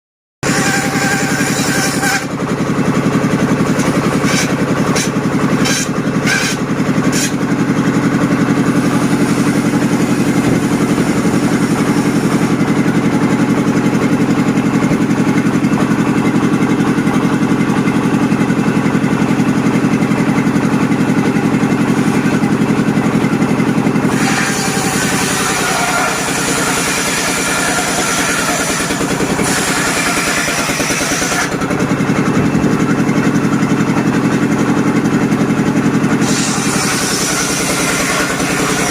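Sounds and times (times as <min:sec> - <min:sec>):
diesel engine running: 0:00.4 - 0:38.9.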